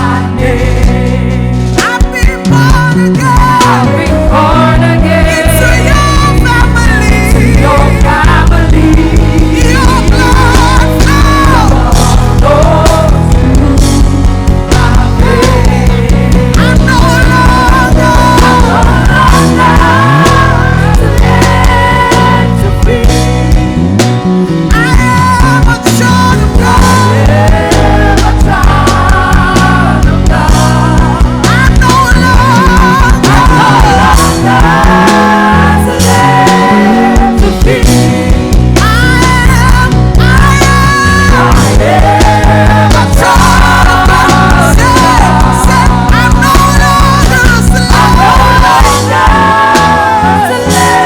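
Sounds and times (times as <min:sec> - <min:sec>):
live gospel band: 0:00.0 - 0:51.0.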